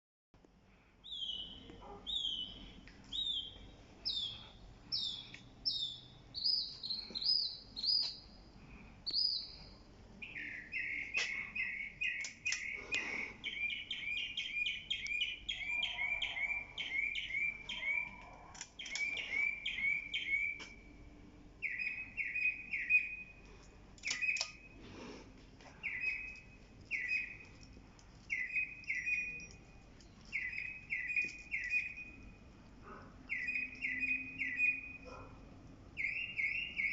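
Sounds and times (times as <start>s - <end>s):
birds chirping: 1.0s - 24.8s, 25.7s - 36.9s.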